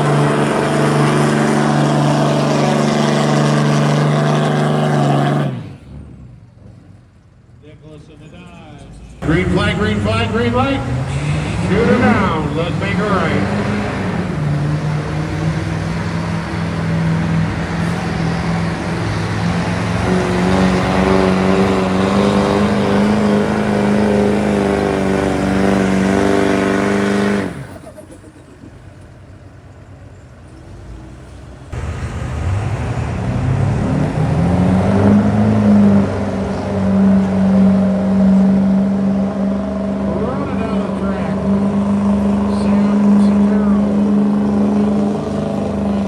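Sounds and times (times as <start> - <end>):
engine revving: 0.0 - 7.2, 8.2 - 28.1, 30.6 - 46.0
pickup engine under load: 0.0 - 46.0.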